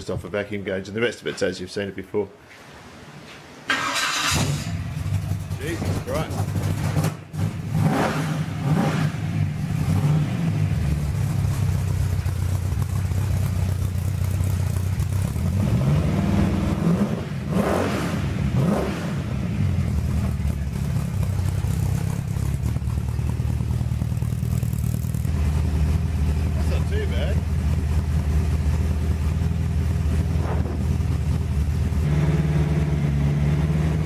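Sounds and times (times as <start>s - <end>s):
car engine revving: 3.7s - 34.0s.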